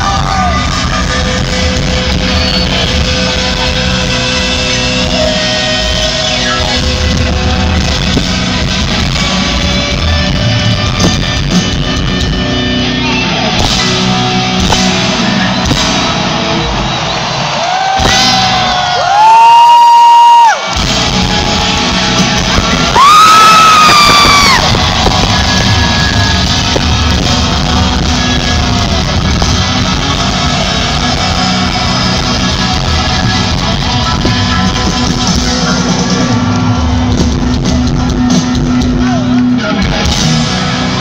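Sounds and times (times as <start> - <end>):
live rock band with piano: 0.0 - 41.0.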